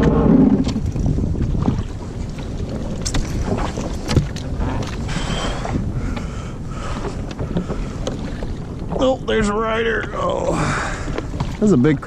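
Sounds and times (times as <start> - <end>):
water against jet ski hull: 0.0 - 12.0
wind buffeting microphone: 0.0 - 12.0.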